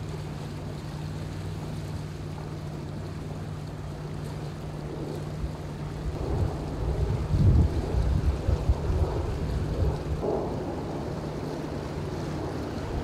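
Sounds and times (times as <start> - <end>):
boat engine humming: 0.0 - 13.0
water washing alongside: 0.0 - 13.0.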